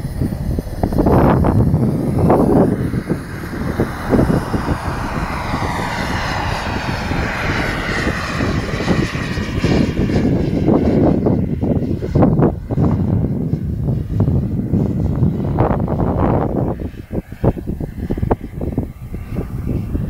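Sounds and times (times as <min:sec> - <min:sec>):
model jet whine passing overhead: 0:00.0 - 0:20.0
wind rumbling on microphone: 0:00.0 - 0:20.0.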